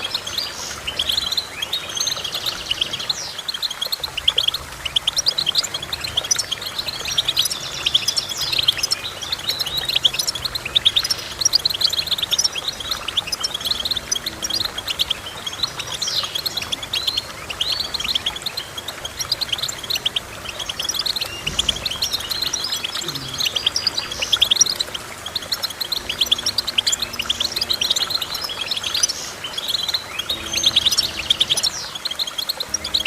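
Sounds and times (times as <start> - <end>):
songbird twittering song: 0.0 - 33.0.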